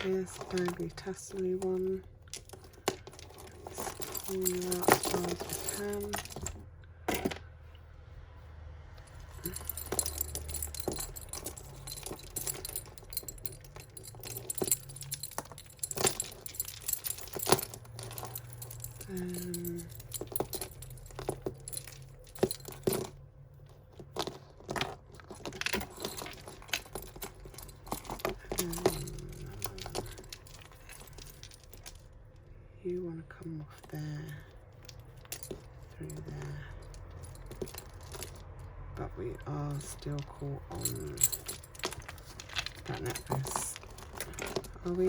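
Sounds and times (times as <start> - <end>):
jewellery chains clinking: 0.0 - 7.8, 8.9 - 45.0.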